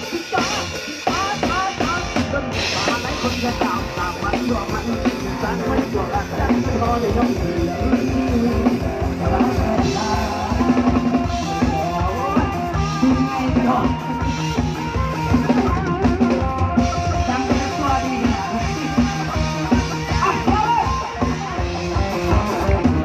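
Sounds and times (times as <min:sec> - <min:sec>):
drum kit beat: 0:00.0 - 0:23.0
live band playing: 0:00.0 - 0:23.0.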